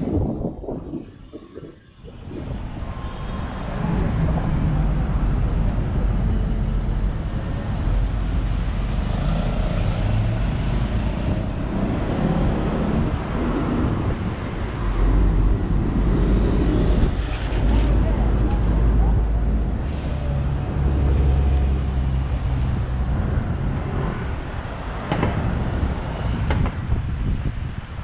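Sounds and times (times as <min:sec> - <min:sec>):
road traffic noise: 0:01.8 - 0:28.0.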